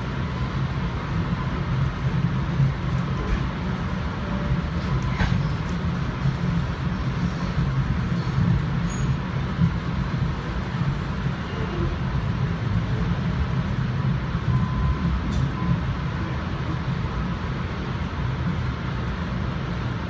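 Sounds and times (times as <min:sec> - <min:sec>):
train coach rumbling on track: 0:00.0 - 0:20.0.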